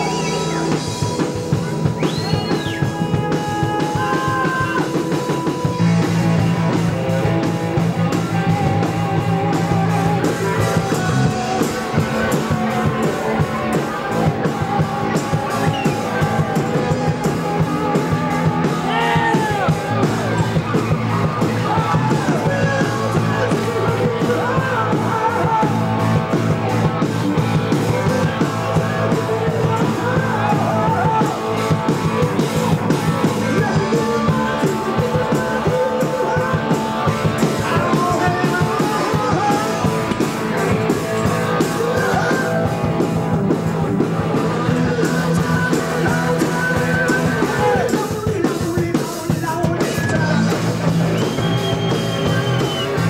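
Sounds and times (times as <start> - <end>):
drum kit: 0.0 - 53.0
electric guitar: 0.0 - 53.0
person singing lead vocal: 0.0 - 53.0.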